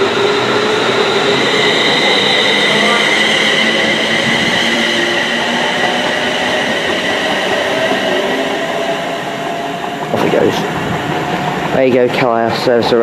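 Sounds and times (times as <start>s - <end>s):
high wheel squeal: 0.0s - 10.7s
train wheels rumbling on rail: 0.0s - 13.0s.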